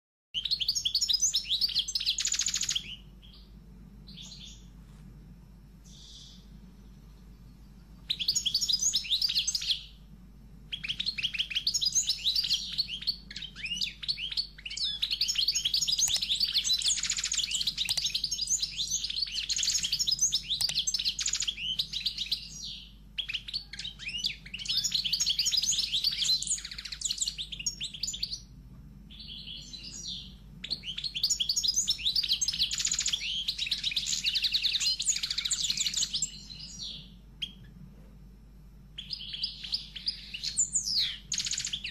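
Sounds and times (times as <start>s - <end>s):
small birds chirping: 0.4s - 5.0s, 5.8s - 37.9s, 38.9s - 41.9s.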